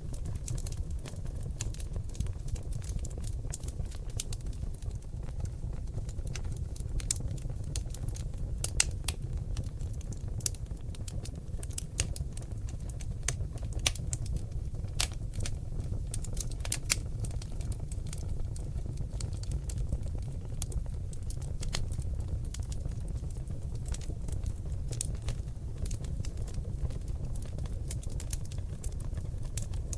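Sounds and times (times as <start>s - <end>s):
logs crackling in a fireplace: 0.0s - 29.9s
low rumble of fire: 0.0s - 29.9s.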